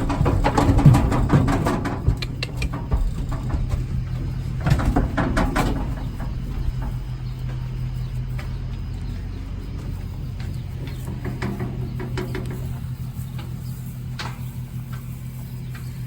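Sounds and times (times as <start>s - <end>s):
metal clanks and knocks: 0.0s - 16.0s
truck engine idling: 0.0s - 16.0s.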